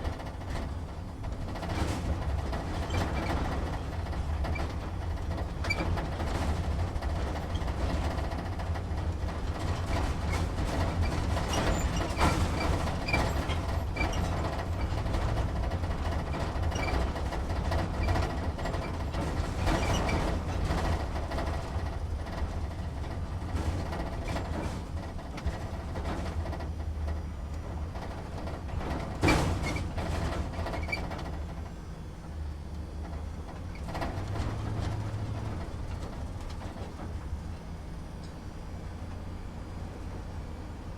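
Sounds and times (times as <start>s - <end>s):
truck engine rumble: 0.0s - 40.9s.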